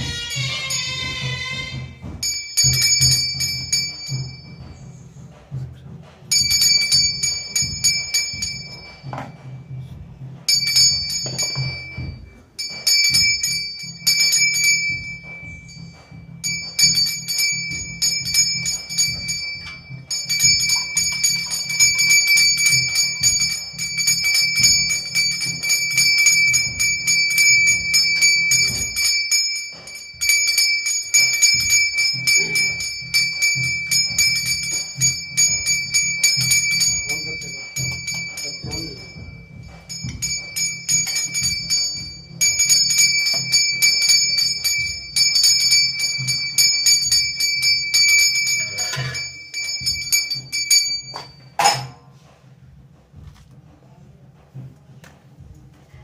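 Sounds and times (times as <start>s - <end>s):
brass bell ringing rapidly: 0.0s - 5.3s, 6.3s - 52.0s.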